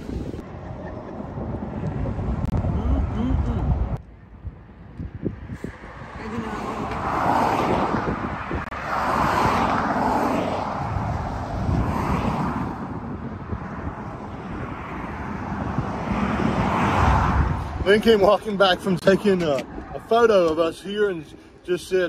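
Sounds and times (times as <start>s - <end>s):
highway traffic passing: 0.0s - 22.0s.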